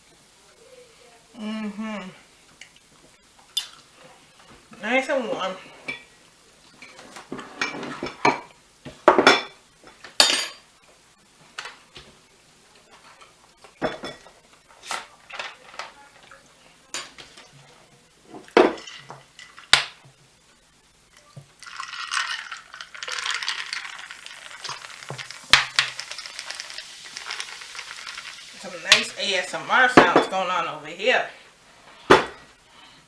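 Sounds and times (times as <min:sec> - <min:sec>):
fries sizzling in a pan: 0:00.0 - 0:33.0.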